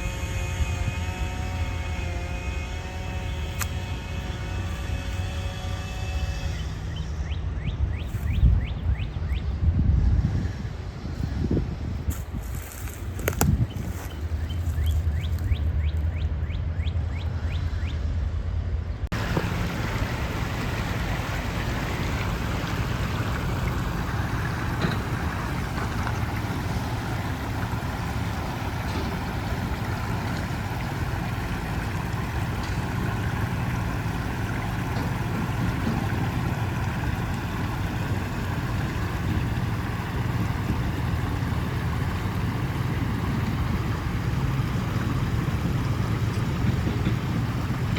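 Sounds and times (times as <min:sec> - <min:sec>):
vehicle engine and road rumble: 0:00.0 - 0:47.9.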